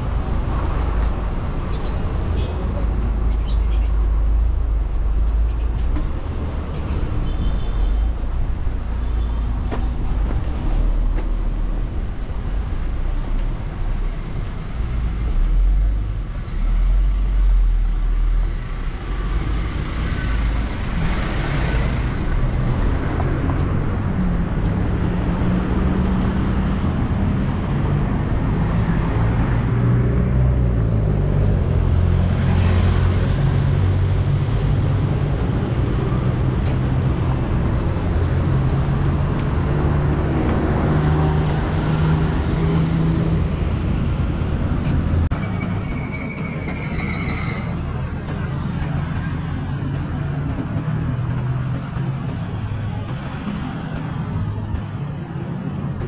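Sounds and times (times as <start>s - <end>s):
traffic passing: 0.0s - 56.0s.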